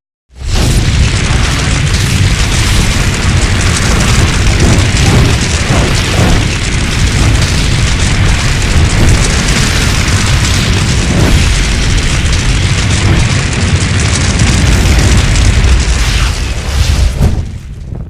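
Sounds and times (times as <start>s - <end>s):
deep rumble: 0.3s - 18.0s
rush of flame: 0.3s - 18.0s.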